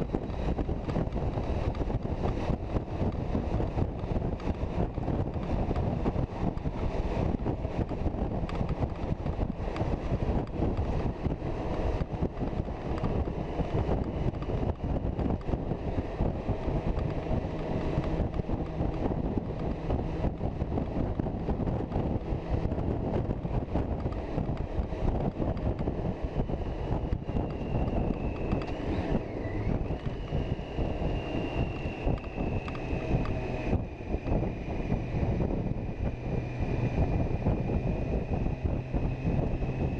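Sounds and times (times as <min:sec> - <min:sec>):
motorcycle engine and tyre noise: 0:00.0 - 0:39.9
wind buffeting the microphone: 0:00.0 - 0:39.9.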